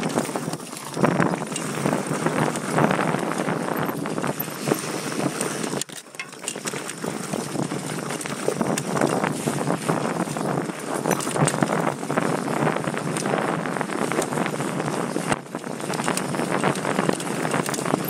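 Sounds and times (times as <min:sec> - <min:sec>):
bike rattling and clicking: 0:00.0 - 0:18.0
bike tyres rolling on dirt: 0:00.0 - 0:18.0
wind on microphone: 0:00.0 - 0:18.0.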